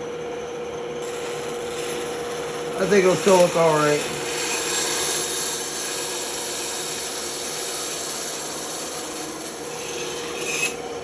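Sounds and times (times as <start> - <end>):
band saw humming: 0.0 - 11.0
saw blade rasping: 1.0 - 11.0.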